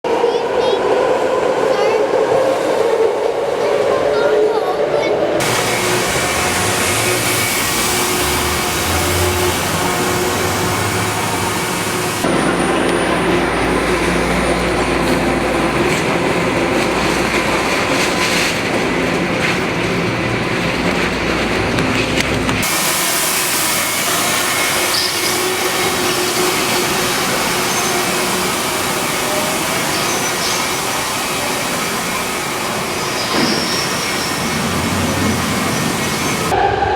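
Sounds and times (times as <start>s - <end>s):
train rumble and hum: 0.1s - 36.9s.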